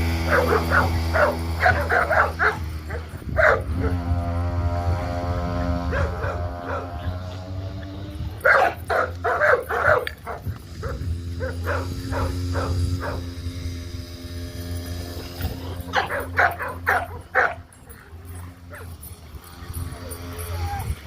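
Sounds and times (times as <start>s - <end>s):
puppies yipping and barking: 0.0s - 21.0s.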